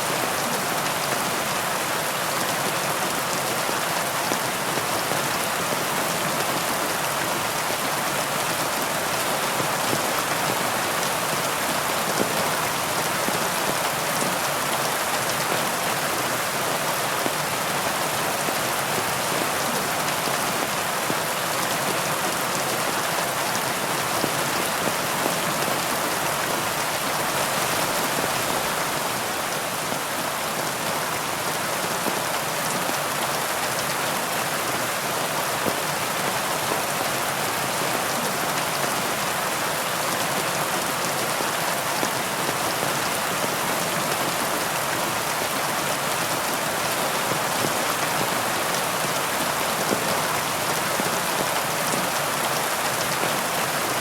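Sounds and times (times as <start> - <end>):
heavy rain on leaves: 0.0 - 54.0.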